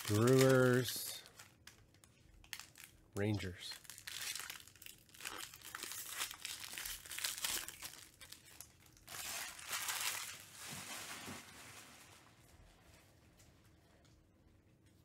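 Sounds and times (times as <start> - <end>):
foil wrapper crinkling: 0.0 - 12.7.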